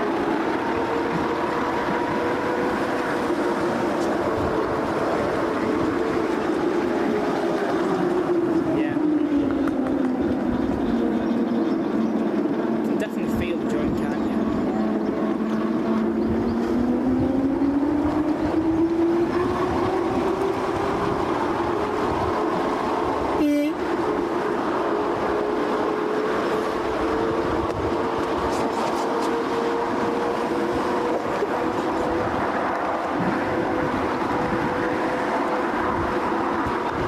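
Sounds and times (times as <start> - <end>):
rumble of wheels on rails: 0.0 - 37.0.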